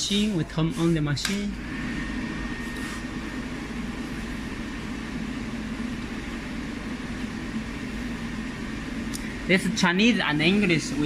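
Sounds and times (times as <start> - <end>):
welding machine humming: 0.0 - 11.0.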